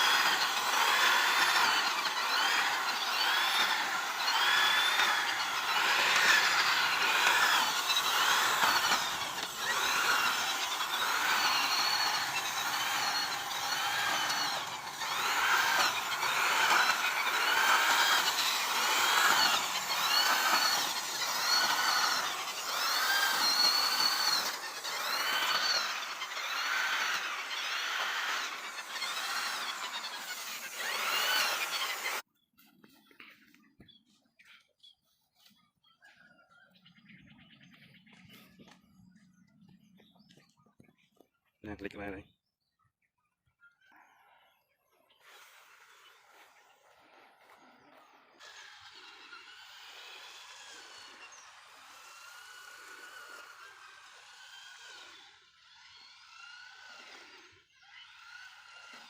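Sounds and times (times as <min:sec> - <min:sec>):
small motor whining: 0:00.0 - 0:42.3, 0:43.6 - 0:59.0.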